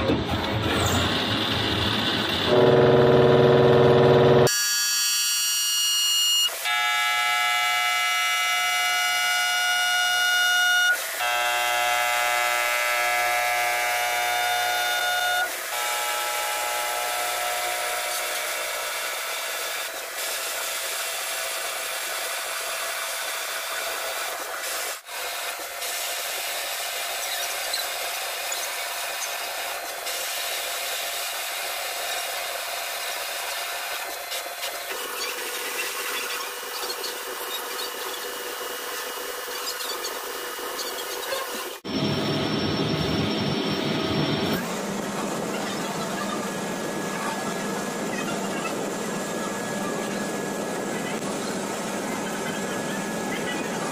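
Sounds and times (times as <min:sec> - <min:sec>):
lathe tool cutting steel: 0:00.6 - 0:53.9.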